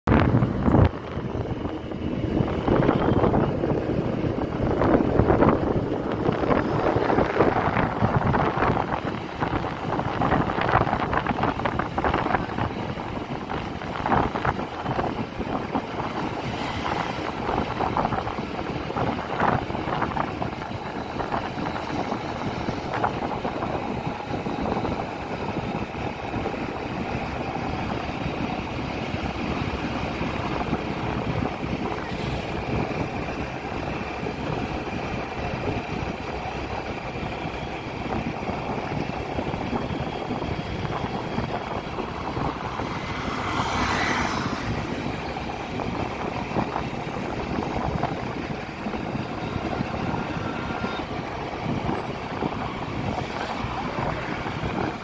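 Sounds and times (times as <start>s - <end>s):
motorcycle engine running: 0.1s - 43.6s, 44.6s - 55.0s
wind buffeting microphone: 0.1s - 55.0s.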